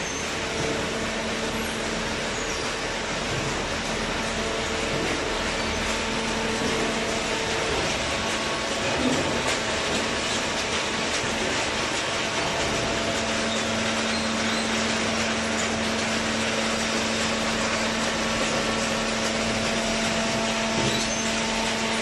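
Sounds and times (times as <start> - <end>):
machinery noise: 0.0 - 22.0.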